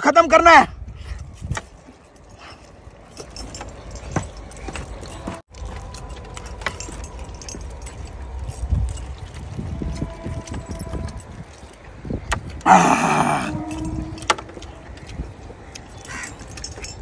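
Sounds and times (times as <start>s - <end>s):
metal bracelets clinking: 1.0s - 17.0s.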